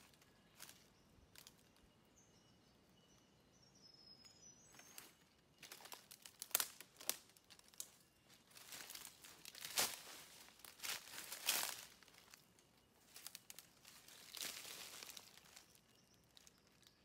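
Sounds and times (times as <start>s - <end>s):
footsteps on dry leaves: 0.0s - 1.7s, 4.7s - 16.9s
faint high bird chirps: 0.0s - 6.4s, 7.3s - 17.0s.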